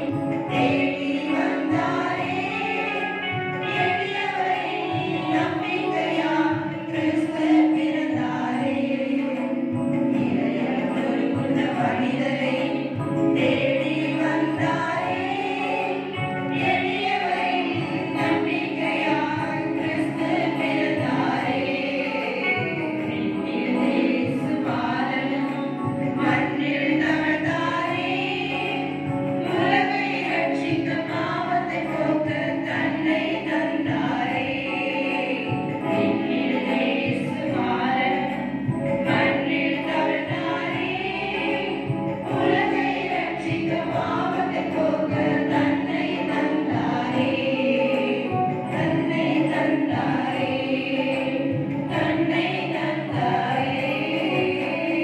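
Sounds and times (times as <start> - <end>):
women's choir singing: 0.0 - 55.0.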